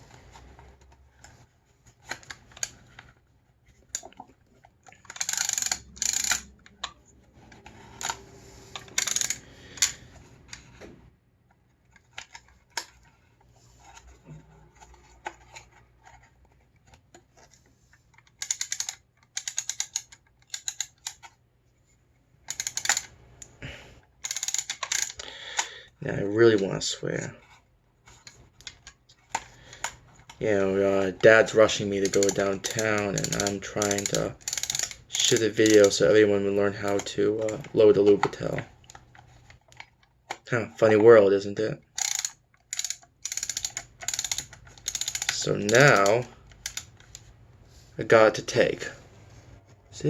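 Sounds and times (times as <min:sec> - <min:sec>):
camera handling clicks and rustles: 0:00.3 - 0:10.8, 0:11.7 - 0:21.4, 0:22.4 - 0:25.7, 0:28.0 - 0:30.4, 0:31.0 - 0:36.0, 0:36.8 - 0:40.8, 0:41.8 - 0:47.4.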